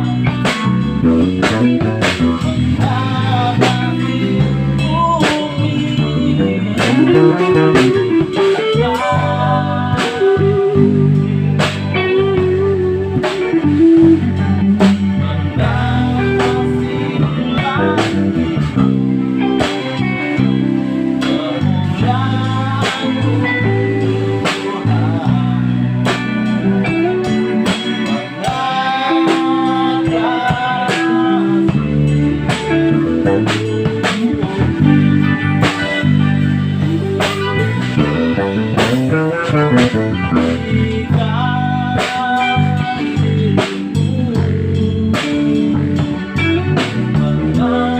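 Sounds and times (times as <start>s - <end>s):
bass guitar: 0.0s - 47.9s
drum kit beat: 0.0s - 47.9s
electric guitar melody: 0.0s - 47.9s
keyboard: 0.0s - 47.9s.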